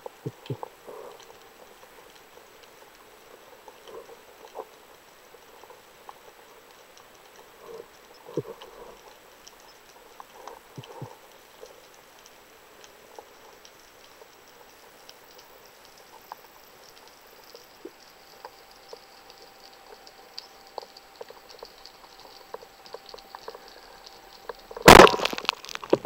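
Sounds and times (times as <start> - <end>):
faint underwater hiss: 0.0 - 25.9
clicks and crackles: 0.0 - 26.0.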